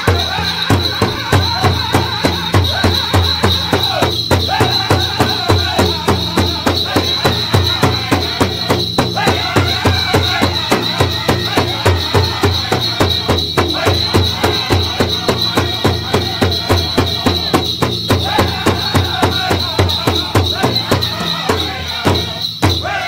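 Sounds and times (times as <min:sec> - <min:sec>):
big drum steady beat: 0:00.0 - 0:23.0
people singing: 0:00.0 - 0:23.0.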